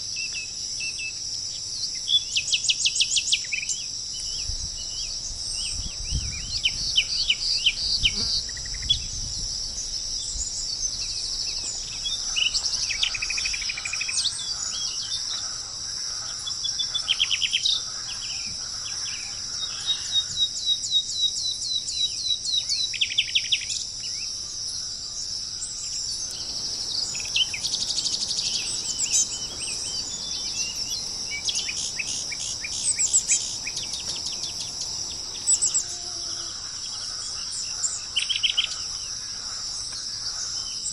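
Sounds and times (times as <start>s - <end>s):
steady high-pitched hiss: 0.0s - 40.9s
birds singing trills and chirps: 0.2s - 40.9s.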